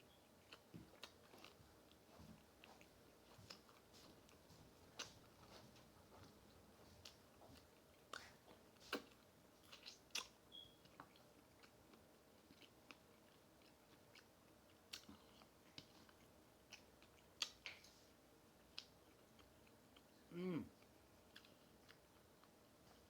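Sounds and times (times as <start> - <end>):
chewing crispy fried food: 0.2 - 23.0.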